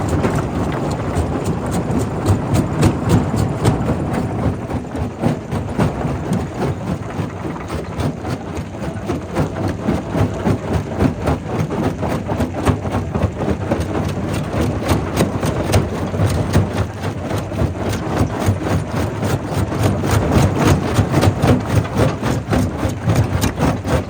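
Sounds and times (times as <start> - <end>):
rock crusher rumbling: 0.0 - 24.0.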